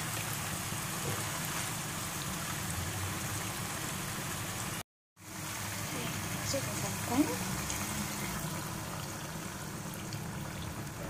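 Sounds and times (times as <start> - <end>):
paste sizzling in oil: 0.0 - 10.3.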